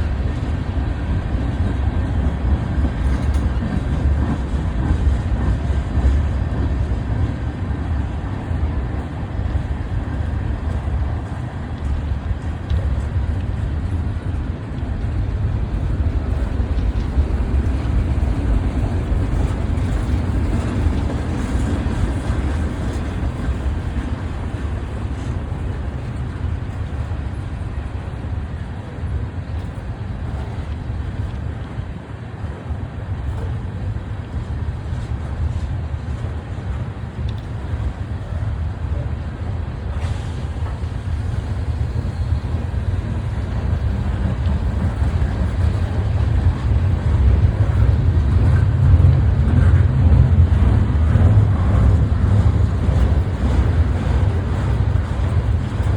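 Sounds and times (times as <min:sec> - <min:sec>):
train rolling past: 0:00.0 - 0:55.9.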